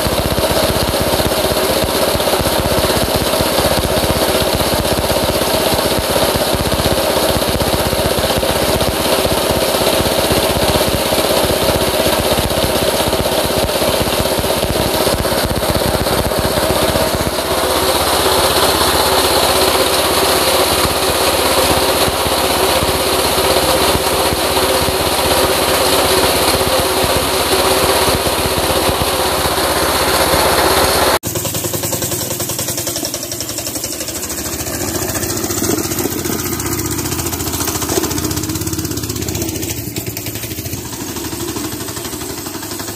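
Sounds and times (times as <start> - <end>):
quieter lower engine: 0.0 - 42.9
small engine running fast idle: 0.0 - 42.9.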